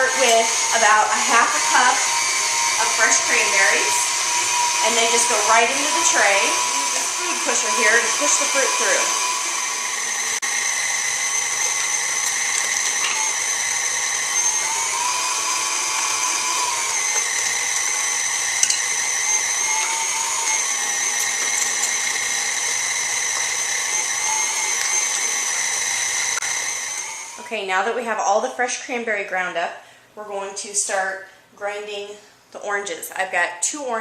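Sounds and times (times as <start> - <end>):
stand mixer motor whine: 0.0 - 27.5.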